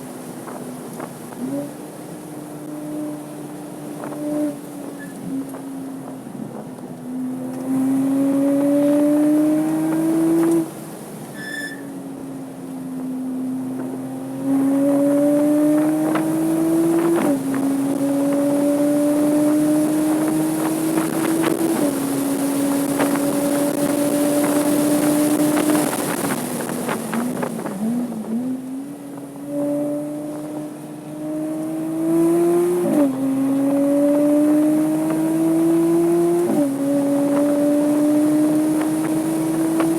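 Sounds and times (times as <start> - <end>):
car engine accelerating: 0.0 - 11.4, 12.1 - 39.9.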